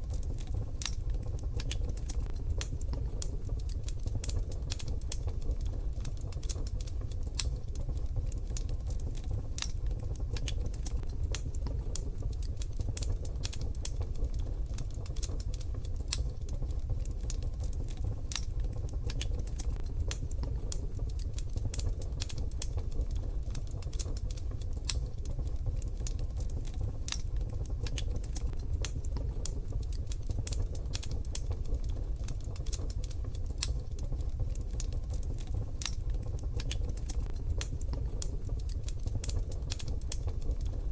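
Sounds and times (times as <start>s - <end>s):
wood stove fire crackling: 0.0s - 40.9s.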